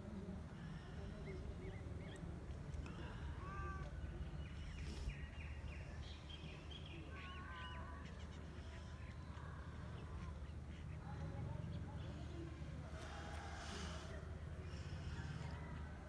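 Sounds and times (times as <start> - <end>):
low outdoor rumble: 0.0 - 16.0
birds chirping and calling: 0.7 - 15.8.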